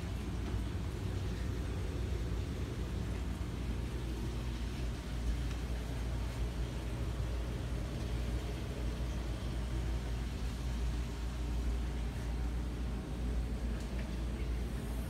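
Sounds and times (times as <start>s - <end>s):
faint hiss: 0.0s - 15.0s
machinery hum: 0.0s - 15.0s.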